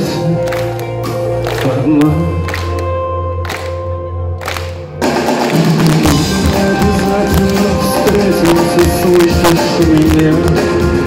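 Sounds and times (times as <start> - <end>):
electric guitar: 0.0 - 11.0
live band playing: 0.0 - 11.0.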